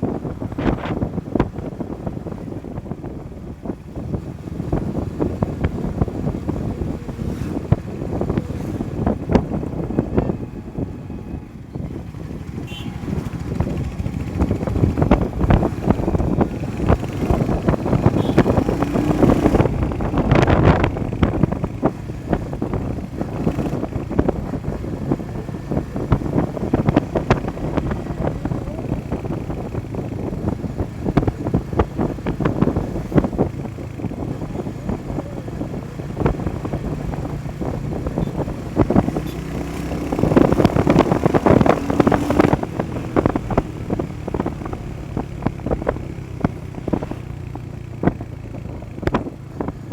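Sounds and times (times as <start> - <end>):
motorcycle engine and road rumble: 0.0 - 49.9
wind buffeting microphone: 0.0 - 49.9.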